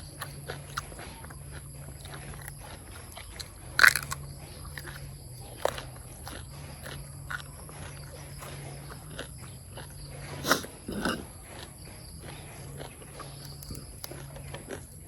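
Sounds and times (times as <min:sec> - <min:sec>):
wet mouth clicks: 0:00.0 - 0:14.8
bite or slurp: 0:00.0 - 0:15.0
low steady hum: 0:00.0 - 0:15.0
person chewing and smacking: 0:00.0 - 0:15.0.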